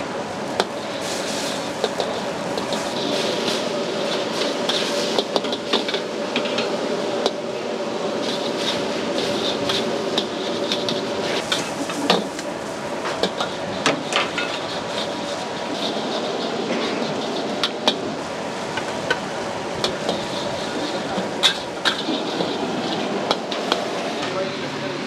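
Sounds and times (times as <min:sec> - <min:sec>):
steady roar and hum: 0:00.0 - 0:25.0
utensils clanking on steel wok: 0:00.5 - 0:07.4, 0:08.2 - 0:24.4.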